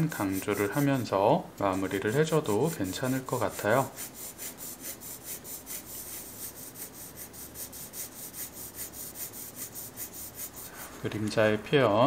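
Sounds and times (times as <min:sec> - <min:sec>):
pencil shading on paper: 0:00.0 - 0:01.1, 0:01.7 - 0:10.8.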